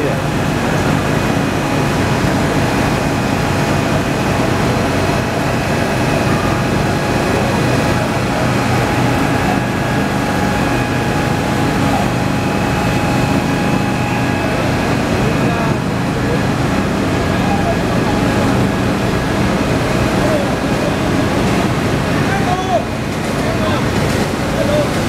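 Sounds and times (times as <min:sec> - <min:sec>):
engine droning steadily: 0:00.0 - 0:25.0.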